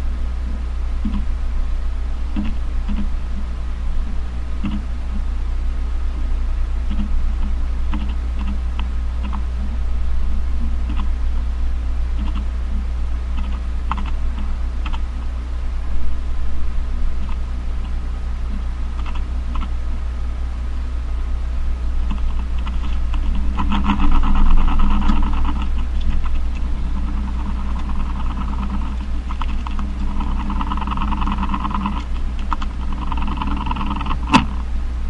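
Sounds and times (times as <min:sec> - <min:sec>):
spider drumming ticking buzz: 0:00.0 - 0:35.0
steady low hum: 0:00.0 - 0:35.0.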